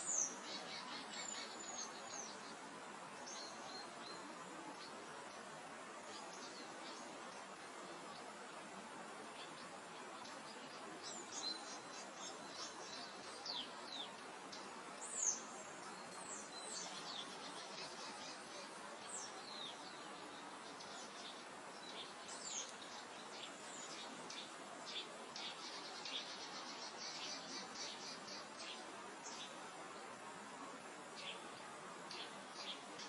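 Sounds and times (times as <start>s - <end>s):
small birds chirping: 0.0s - 33.0s
soft wind hiss: 0.0s - 33.0s.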